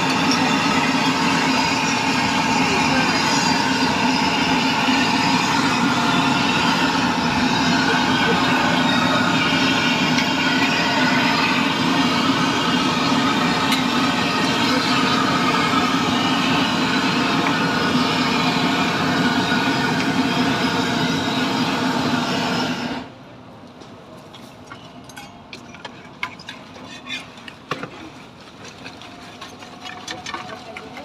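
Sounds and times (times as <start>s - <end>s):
engine-like hum with hiss: 0.0s - 26.0s.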